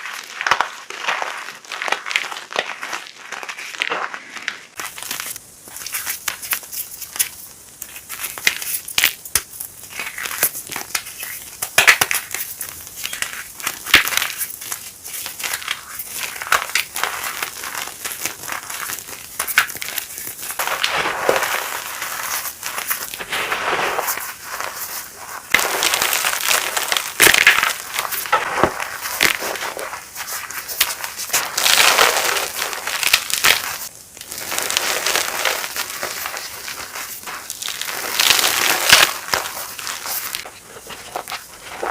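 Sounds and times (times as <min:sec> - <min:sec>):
chalk crushed by hand: 0:00.0 - 0:41.9.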